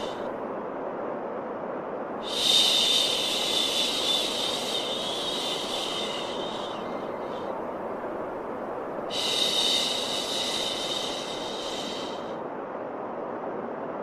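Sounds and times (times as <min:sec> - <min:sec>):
white noise hiss: 0:00.0 - 0:14.0.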